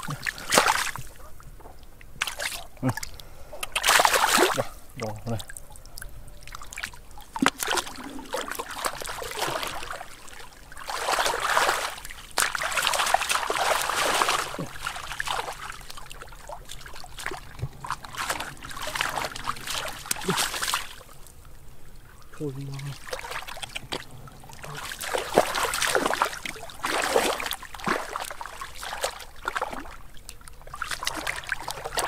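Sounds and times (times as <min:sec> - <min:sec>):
splashing in muddy water: 0:00.0 - 0:01.3, 0:02.2 - 0:05.6, 0:06.4 - 0:21.3, 0:22.6 - 0:32.0.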